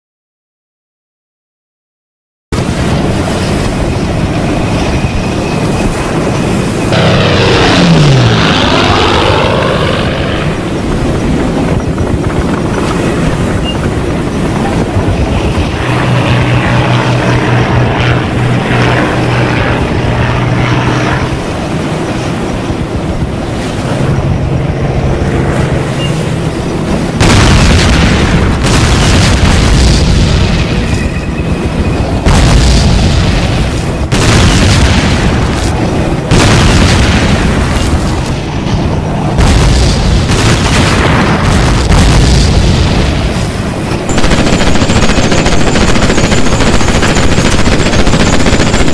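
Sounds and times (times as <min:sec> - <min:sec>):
low engine drone: 0:02.6 - 0:48.9
heavy explosions: 0:06.0 - 0:48.9.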